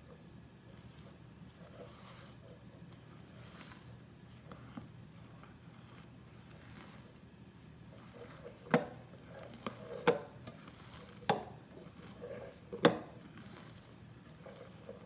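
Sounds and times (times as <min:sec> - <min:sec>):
spatula scraping and squishing batter: 0:00.0 - 0:15.0.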